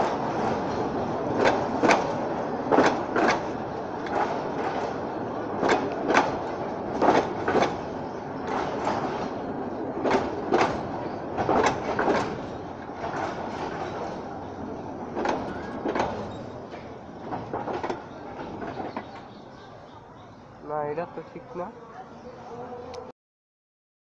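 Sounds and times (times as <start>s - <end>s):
wheels clacking over rail joints: 0.0s - 19.7s
train coaches rumbling past: 0.0s - 23.1s.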